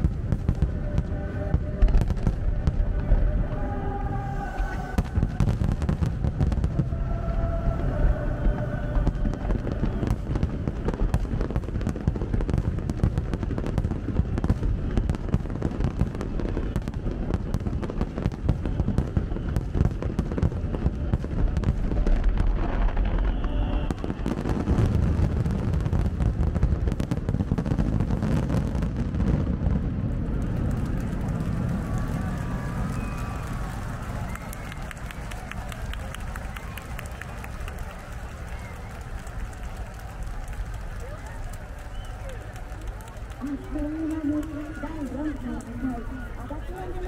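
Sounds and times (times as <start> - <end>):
continuous low rumble: 0.0 - 47.0.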